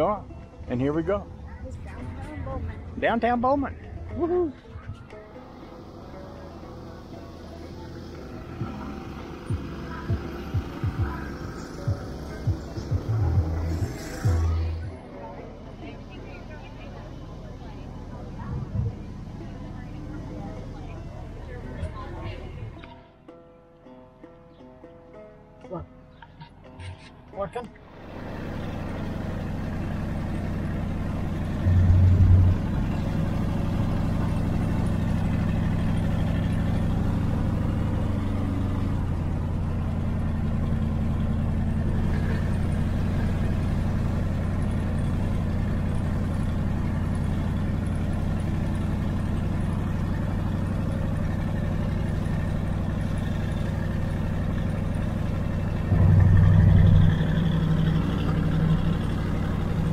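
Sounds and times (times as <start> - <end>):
vehicle engine idling: 0.0 - 23.2, 26.1 - 59.9.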